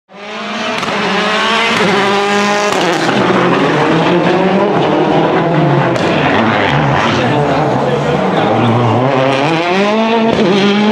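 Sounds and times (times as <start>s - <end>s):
rally car engine revving: 0.1s - 10.9s.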